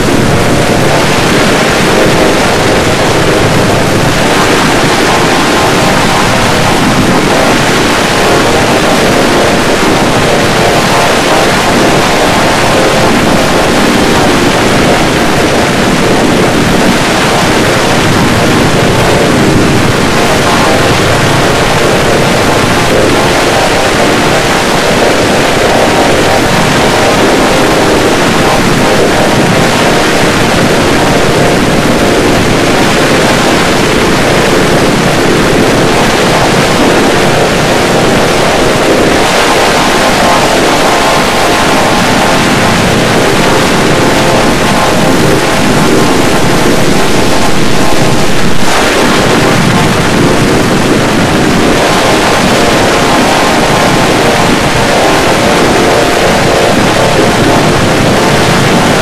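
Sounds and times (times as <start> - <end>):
harsh distorted noise: 0.0 - 59.0.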